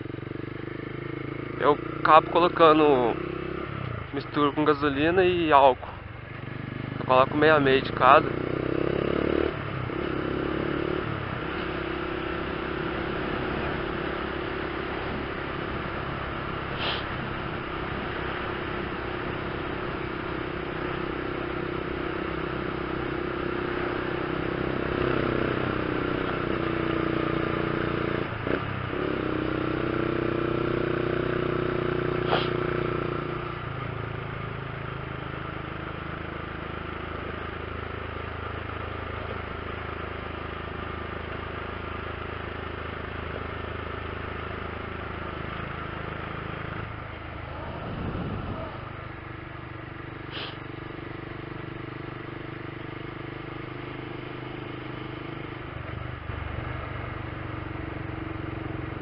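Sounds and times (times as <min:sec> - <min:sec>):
motorcycle engine running: 0:00.0 - 0:59.0
road noise: 0:00.0 - 0:59.0
wind: 0:00.0 - 0:59.0.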